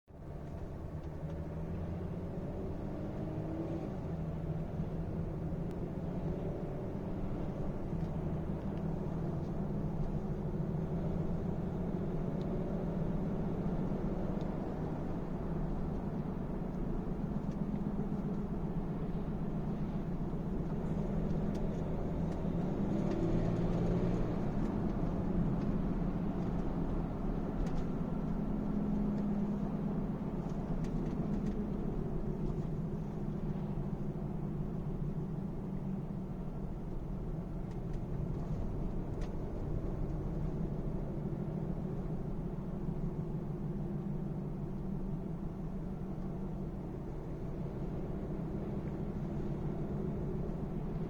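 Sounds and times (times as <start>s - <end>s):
car engine humming: 0.2s - 51.0s.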